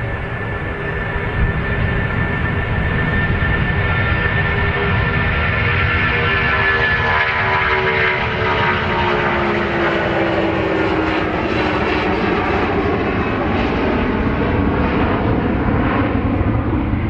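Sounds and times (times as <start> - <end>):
aircraft engines passing: 0.0 - 17.0.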